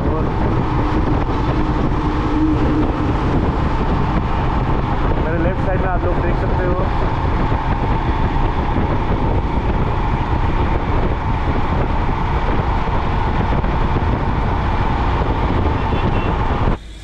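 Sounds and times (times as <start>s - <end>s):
motorcycle engine drone: 0.0s - 17.0s
wind rush on microphone: 0.0s - 17.0s.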